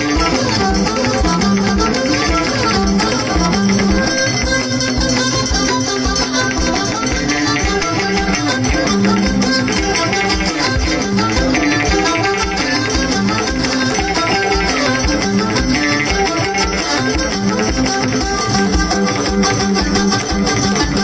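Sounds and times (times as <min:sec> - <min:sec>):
hand drums: 0:00.0 - 0:21.0
plucked string instruments: 0:00.0 - 0:21.0.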